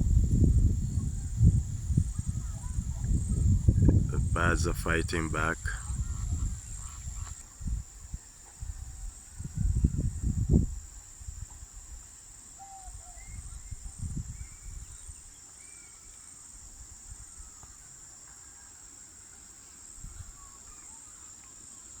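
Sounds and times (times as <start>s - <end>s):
high-pitched insect drone: 0.1s - 22.0s.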